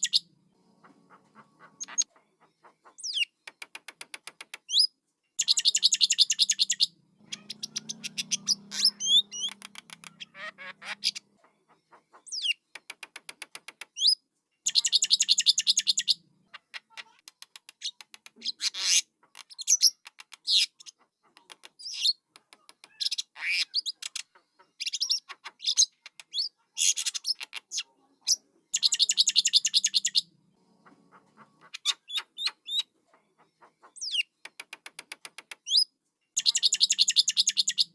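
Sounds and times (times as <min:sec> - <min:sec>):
chick high chirps and clicks: 0:00.0 - 0:27.9, 0:28.8 - 0:37.9.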